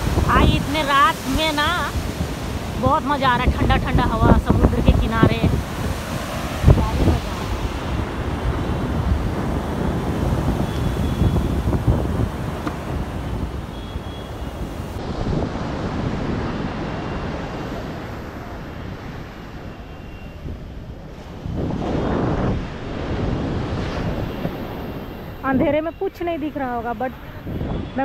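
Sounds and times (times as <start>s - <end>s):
surf washing on shore: 0.0s - 28.0s
wind buffeting microphone: 0.0s - 28.0s.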